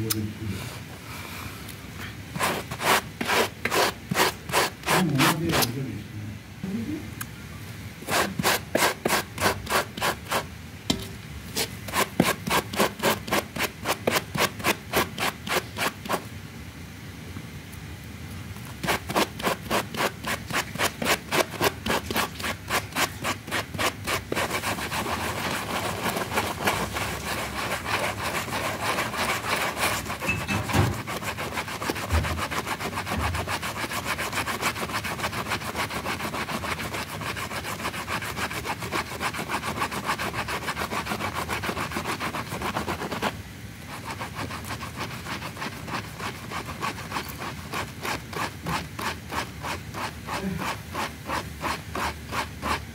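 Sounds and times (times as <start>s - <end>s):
brush scrubbing a rug: 2.3s - 5.8s, 8.0s - 10.5s, 11.5s - 16.3s, 18.8s - 52.9s.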